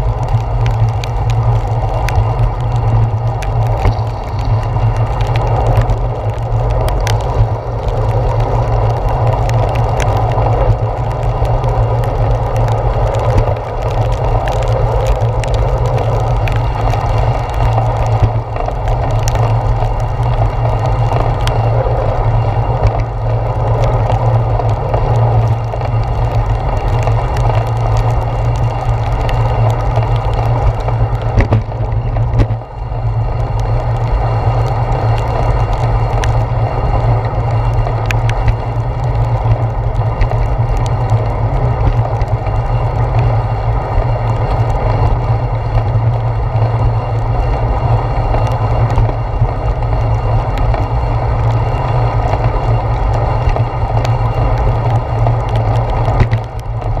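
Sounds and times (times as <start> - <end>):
raindrops striking camera housing: 0.0 - 57.0
wind and road vibration rumble: 0.0 - 57.0.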